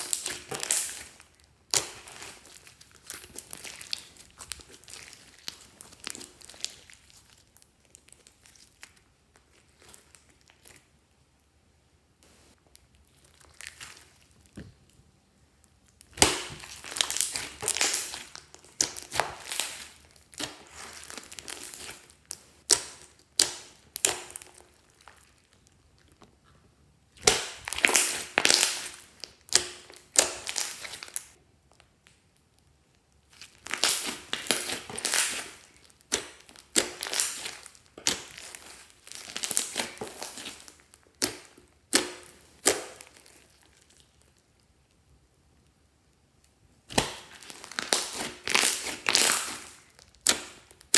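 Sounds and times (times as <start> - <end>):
slime squishing and crackling: 0.0 - 11.0, 12.2 - 44.7, 46.8 - 50.9.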